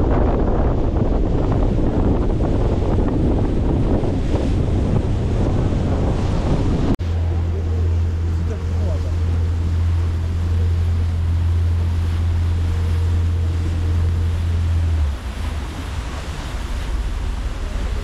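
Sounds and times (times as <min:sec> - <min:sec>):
boat engine droning: 0:00.0 - 0:18.0
water rushing past: 0:00.0 - 0:18.0
wind: 0:00.0 - 0:18.0.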